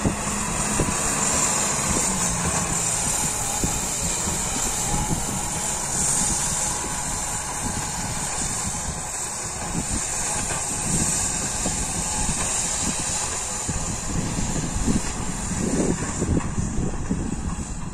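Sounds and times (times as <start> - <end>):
distant diesel tractor running: 0.0 - 17.9
wind buffeting microphone: 0.0 - 17.9.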